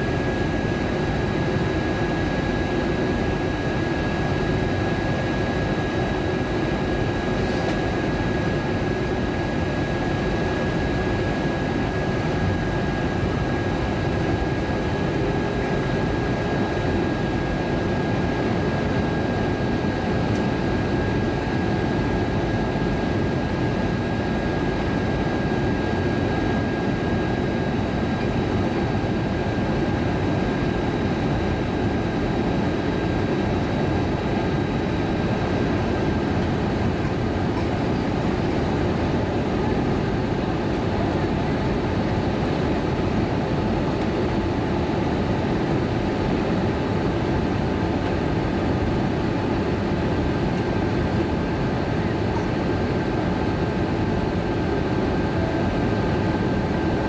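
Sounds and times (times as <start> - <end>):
airplane cabin roar: 0.0 - 57.0.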